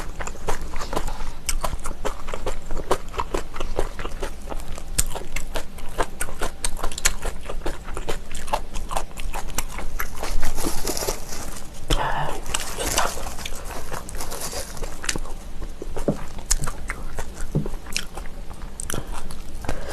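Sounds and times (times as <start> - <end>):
chewing crunchy food: 0.0 - 19.9.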